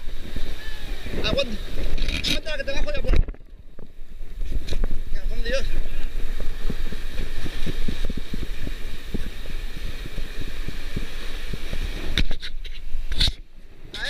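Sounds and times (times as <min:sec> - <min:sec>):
surf breaking on rocks: 0:00.0 - 0:13.0
wind buffeting microphone: 0:00.0 - 0:14.0.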